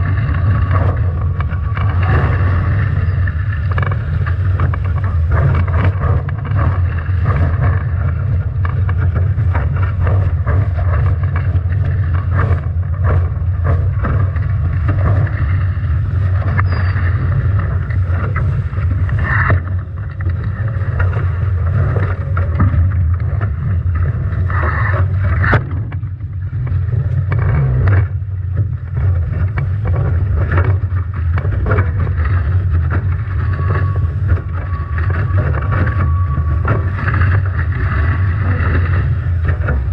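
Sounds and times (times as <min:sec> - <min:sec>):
spray and waves slapping boat: 0:00.0 - 0:39.9
water rushing past boat: 0:00.0 - 0:39.9
wind buffeting microphone: 0:00.0 - 0:39.9.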